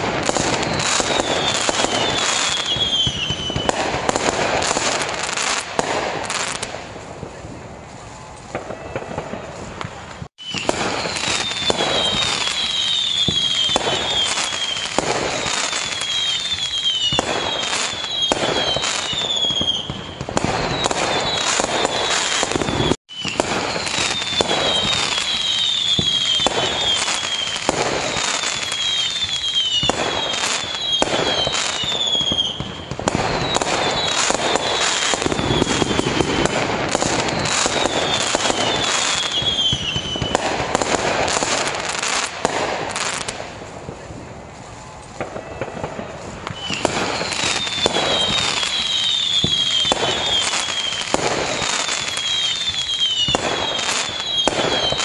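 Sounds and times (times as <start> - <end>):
falling firework whistles: 0.0 - 55.0
fireworks bangs and crackling: 0.0 - 55.0.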